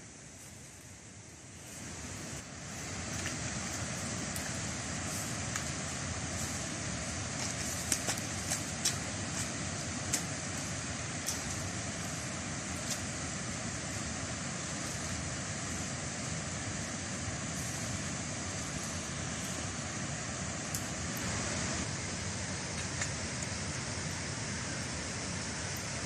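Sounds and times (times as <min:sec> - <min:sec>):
water rushing in a ditch: 0:01.7 - 0:26.0.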